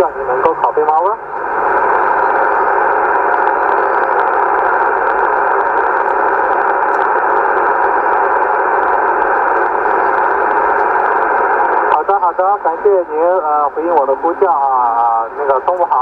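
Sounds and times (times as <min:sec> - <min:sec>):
radio receiver static hiss: 0:00.0 - 0:16.0.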